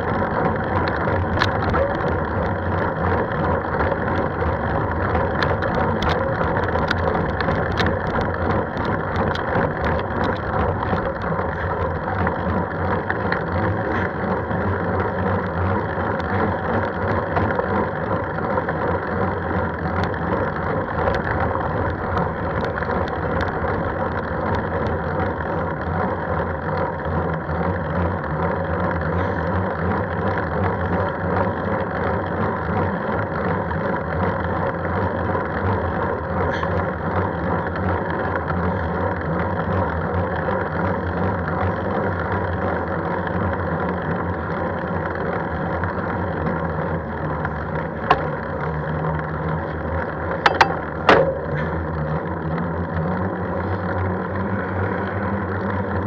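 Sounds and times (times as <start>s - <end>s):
vehicle hum and rumble: 0.0s - 56.0s.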